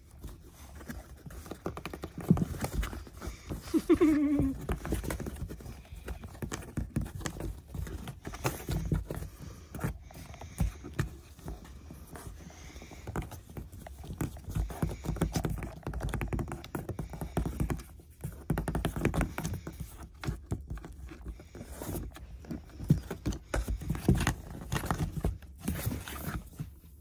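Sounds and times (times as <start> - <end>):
cat paws on cardboard box: 0.0 - 27.0.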